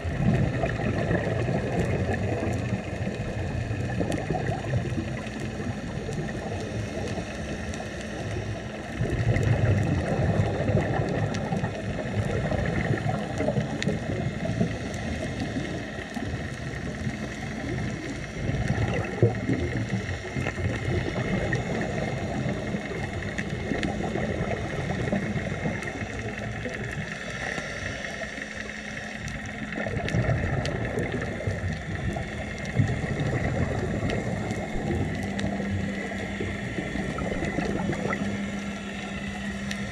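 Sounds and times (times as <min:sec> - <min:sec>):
regulator bubbles gurgling underwater: 0:00.0 - 0:39.9
steady mechanical hum: 0:00.0 - 0:39.9.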